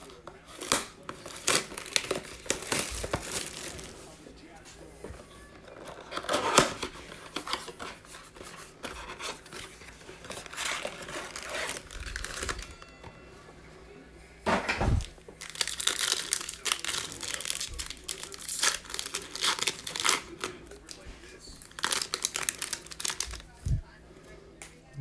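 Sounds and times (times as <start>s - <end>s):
plastic wrappers crinkling and tearing: 0.0s - 13.0s, 15.0s - 23.8s.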